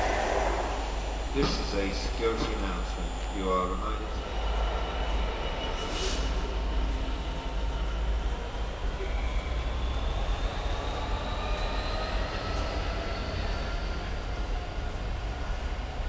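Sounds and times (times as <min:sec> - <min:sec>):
faint rising whine: 0:00.0 - 0:16.0
train rumbling: 0:00.0 - 0:16.0.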